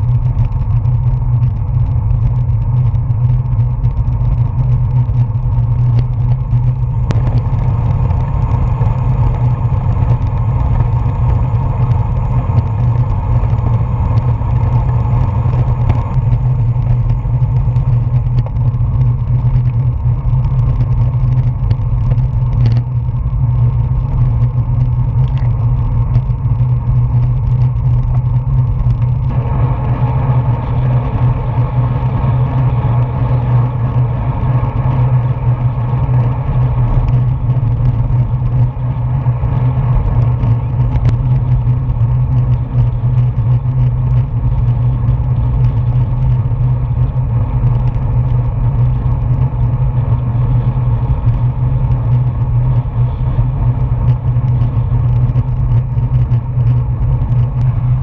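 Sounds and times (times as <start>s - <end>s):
wind and road noise rumble: 0.0s - 58.0s.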